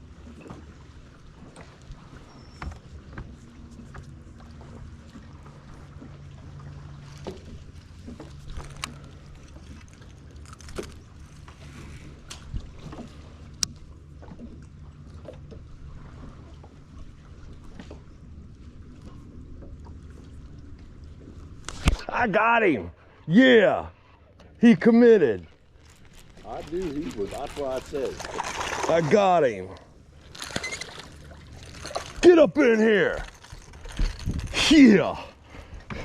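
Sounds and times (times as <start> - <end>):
boat motor humming: 0.0 - 36.0.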